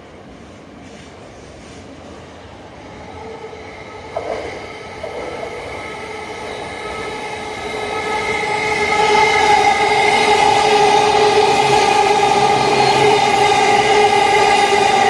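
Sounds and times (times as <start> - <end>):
electric train approaching: 1.6 - 15.0.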